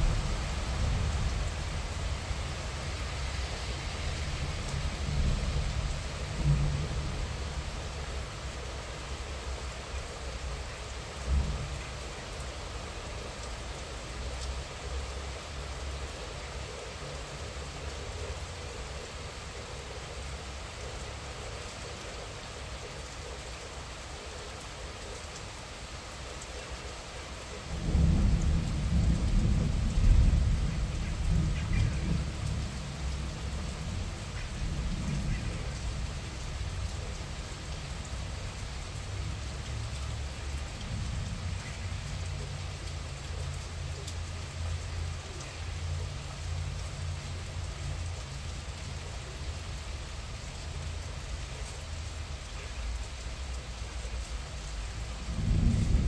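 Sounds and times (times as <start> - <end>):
moderate rain falling: 0.0 - 56.0.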